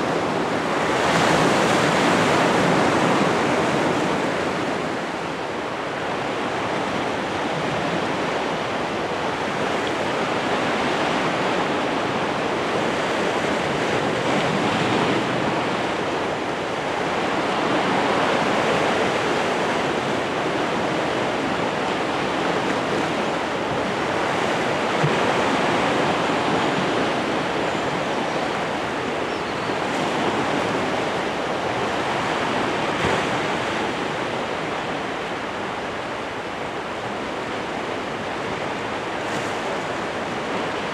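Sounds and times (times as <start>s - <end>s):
sea waves rushing: 0.0s - 40.9s.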